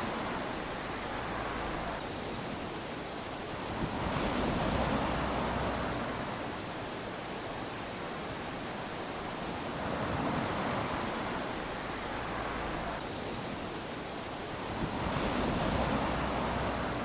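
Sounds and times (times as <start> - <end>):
small waves washing onto beach: 0.0 - 17.0.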